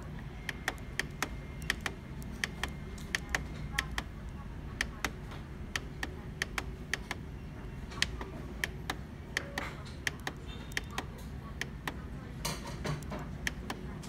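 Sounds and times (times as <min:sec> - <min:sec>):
plastic buttons clicking: 0:00.0 - 0:14.0.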